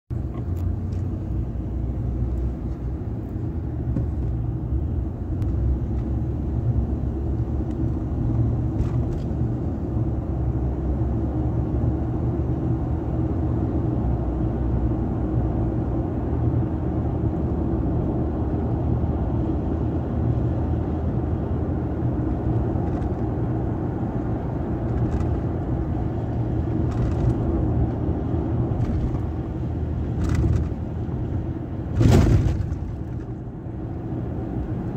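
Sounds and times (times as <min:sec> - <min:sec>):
vehicle engine and tyre rumble: 0:00.1 - 0:34.9.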